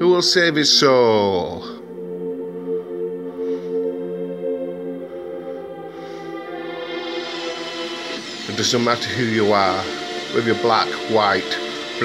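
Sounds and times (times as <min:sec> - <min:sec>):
sustained music chord: 0:00.5 - 0:12.0.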